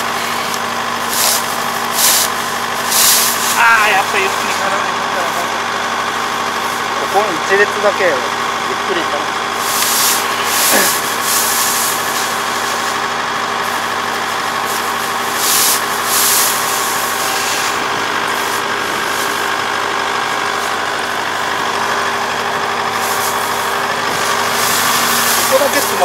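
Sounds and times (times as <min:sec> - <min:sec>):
short bursts of noise: 0:00.0 - 0:07.0, 0:09.5 - 0:26.0
harvester engine running steadily: 0:00.0 - 0:26.0.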